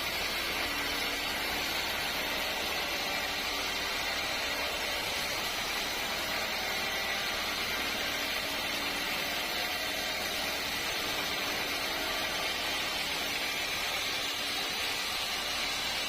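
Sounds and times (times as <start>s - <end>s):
sawmill machinery running: 0.0s - 16.0s.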